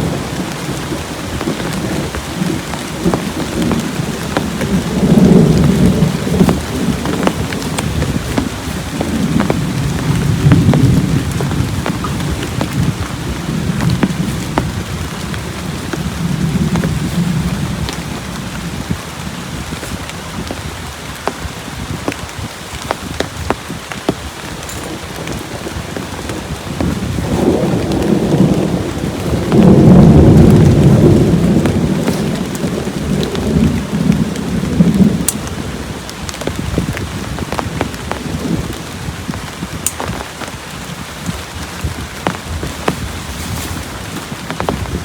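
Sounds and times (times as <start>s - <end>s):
rolling thunder: 0.0s - 23.8s, 24.8s - 45.0s
heavy rain falling: 0.0s - 45.0s.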